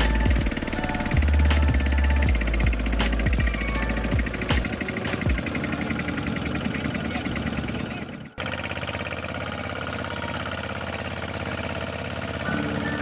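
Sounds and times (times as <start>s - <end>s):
diesel tractor engine chatter: 0.0s - 13.0s.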